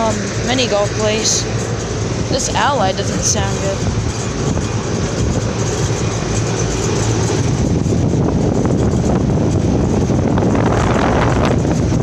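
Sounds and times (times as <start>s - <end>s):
air conditioner unit running: 0.0s - 12.0s.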